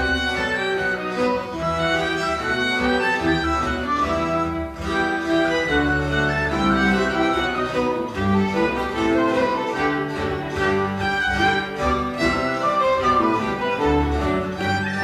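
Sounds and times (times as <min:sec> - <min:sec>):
cello keyboard and guitar accompaniment: 0:00.0 - 0:15.0
violins: 0:00.0 - 0:15.0.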